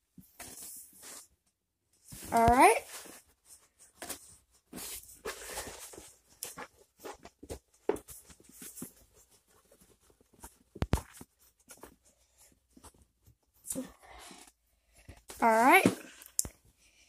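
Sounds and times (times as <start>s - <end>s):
faint rustles and taps: 0.1s - 13.8s.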